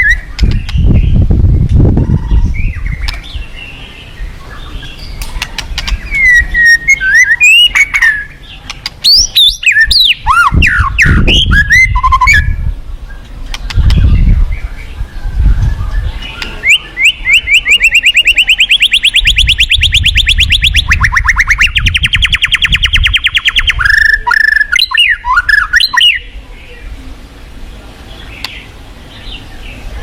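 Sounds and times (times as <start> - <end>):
bird singing: 0.0 - 27.0, 27.6 - 30.0.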